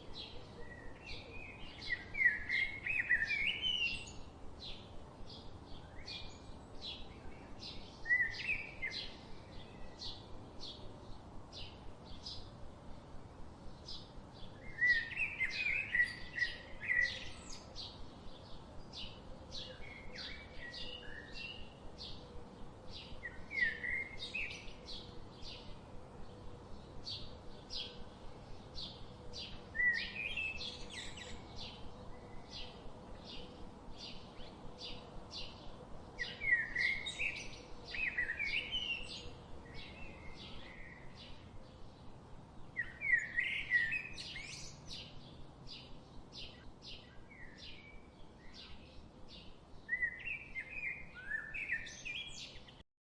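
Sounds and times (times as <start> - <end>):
bird chirping: 0.0 - 13.0, 13.6 - 52.8.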